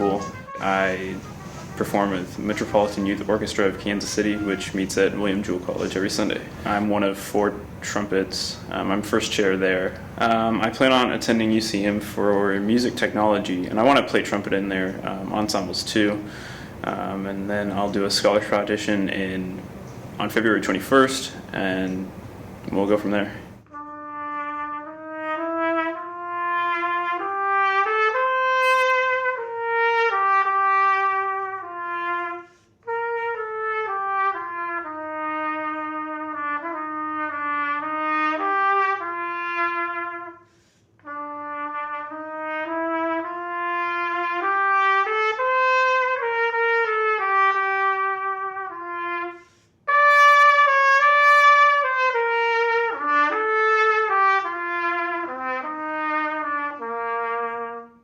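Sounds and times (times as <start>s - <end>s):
solo trumpet melody: 0.0s - 17.3s, 23.6s - 58.0s.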